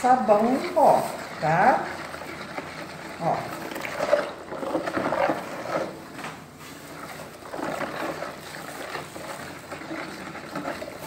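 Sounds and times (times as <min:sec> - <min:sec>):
spoon stirring sloshing liquid: 0:00.2 - 0:11.0.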